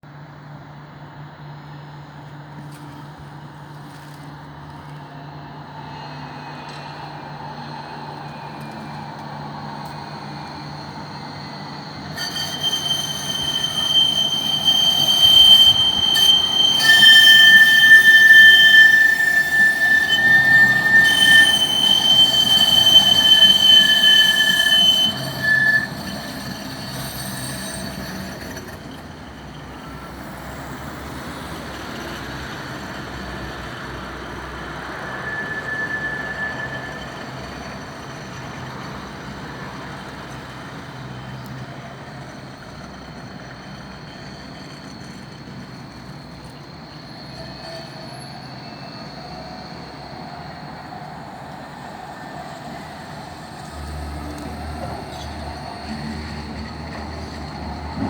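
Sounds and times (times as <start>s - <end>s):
tram humming: 0.1s - 58.0s
tram wheels squealing on rails: 0.1s - 58.0s.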